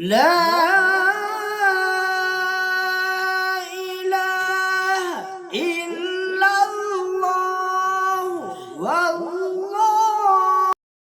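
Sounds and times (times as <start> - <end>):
person reciting melodically: 0.0 - 10.8.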